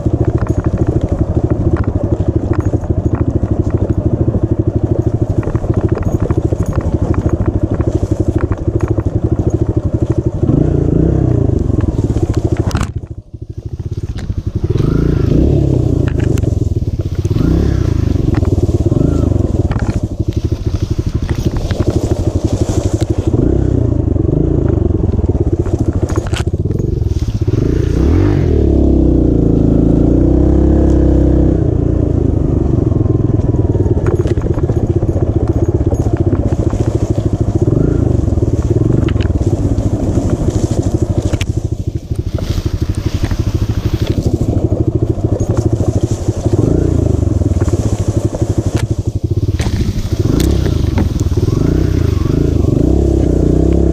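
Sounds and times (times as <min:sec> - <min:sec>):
dirt bike engine revving: 0:00.0 - 0:53.9
grass scraping against bike: 0:00.0 - 0:53.9.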